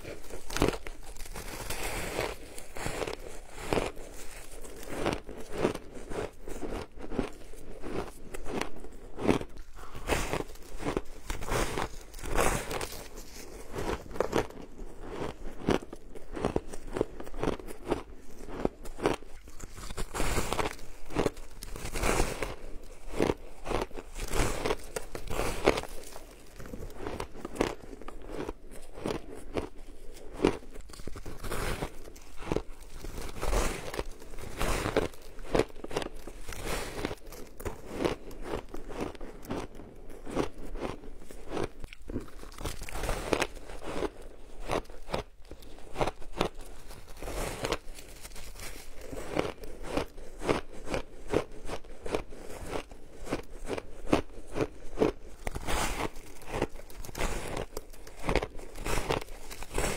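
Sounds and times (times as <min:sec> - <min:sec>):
crunching shaved ice: 0:00.0 - 0:59.9.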